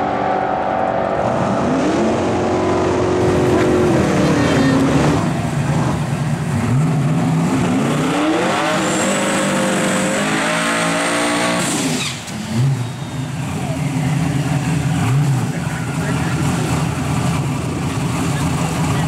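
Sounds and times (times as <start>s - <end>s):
drag racing car engine accelerating: 0.0s - 19.0s.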